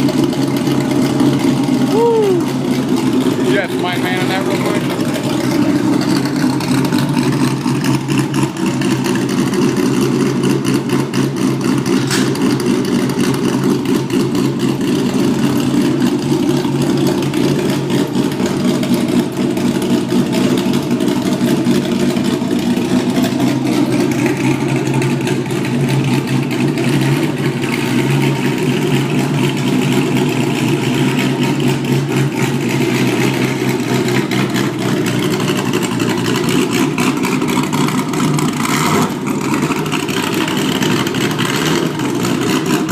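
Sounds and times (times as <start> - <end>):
deep loud exhaust note: 0.0 - 42.9.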